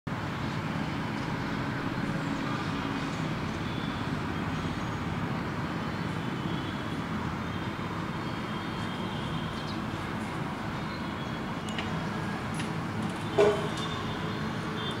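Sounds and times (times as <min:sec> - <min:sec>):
road traffic hum: 0:00.1 - 0:15.0.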